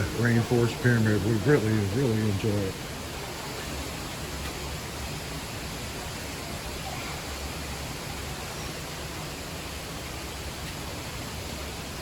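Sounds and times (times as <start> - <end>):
steady rushing ambience: 0.0 - 12.0.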